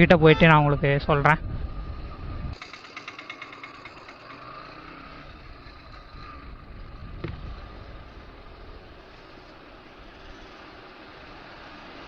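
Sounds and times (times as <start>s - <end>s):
wind and road noise: 0.0s - 12.0s
motorcycle engine: 1.4s - 12.0s.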